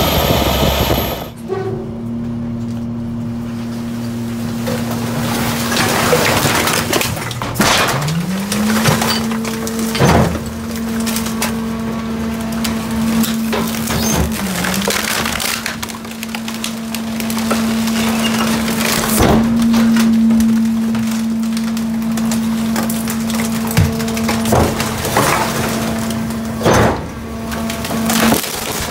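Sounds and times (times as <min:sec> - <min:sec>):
truck machine hum: 0:00.0 - 0:28.9
wood cracking and splintering: 0:03.6 - 0:28.9.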